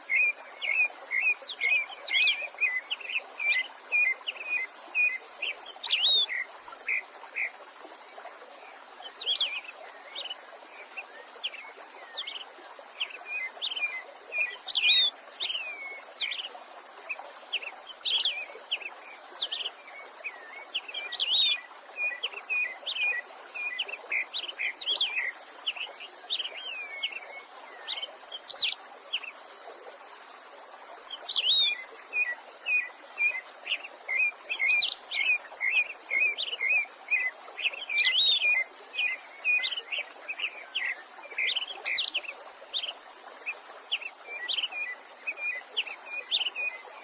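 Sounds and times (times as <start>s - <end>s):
songbird chirping: 0.0s - 7.6s, 8.2s - 47.0s
stream water hissing: 0.0s - 47.0s.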